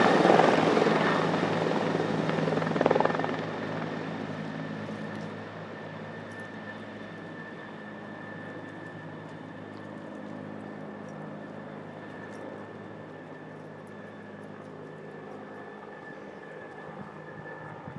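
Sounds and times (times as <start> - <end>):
helicopter running: 0.0 - 17.9.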